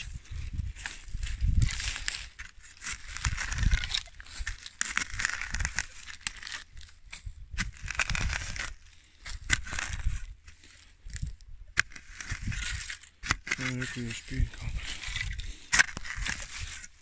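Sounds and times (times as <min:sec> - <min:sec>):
shovel scraping through dirt: 0:00.0 - 0:17.0.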